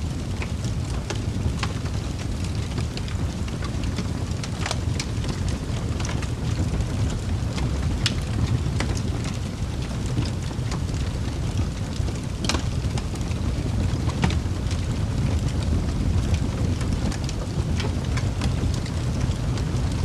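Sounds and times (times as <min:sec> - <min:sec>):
burning logs crackling and popping: 0:00.0 - 0:20.0
wood fire roaring: 0:00.0 - 0:20.0.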